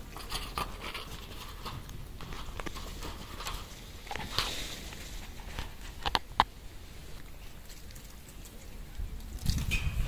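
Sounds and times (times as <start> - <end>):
rustling of food scraps: 0.0 - 9.9.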